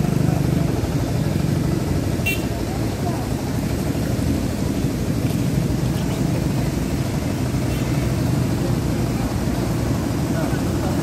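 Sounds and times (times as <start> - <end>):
low street noise rumble: 0.0 - 11.0.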